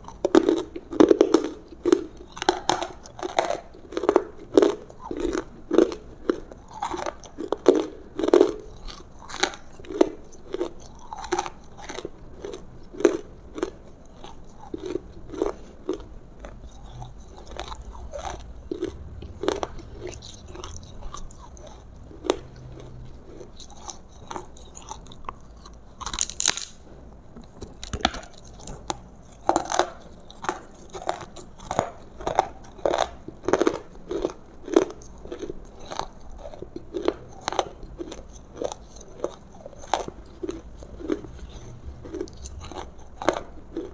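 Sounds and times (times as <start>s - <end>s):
chewing and crunching food: 0.0s - 43.9s.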